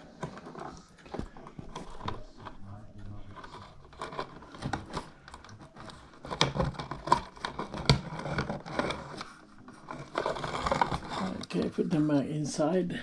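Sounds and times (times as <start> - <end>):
wires and connectors clicking: 0.0 - 11.7.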